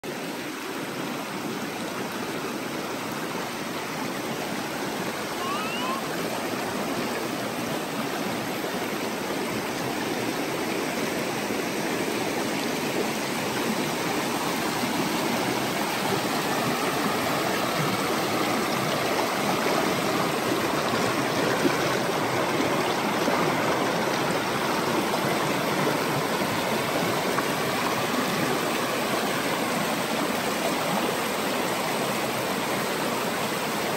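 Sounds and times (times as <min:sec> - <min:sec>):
creek rushing over rocks: 0:00.1 - 0:33.9.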